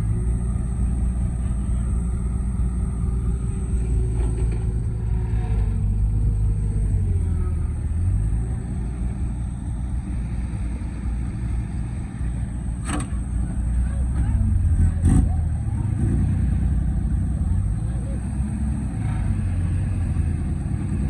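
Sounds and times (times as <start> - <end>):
heavy vehicle engine droning: 0.0 - 21.0.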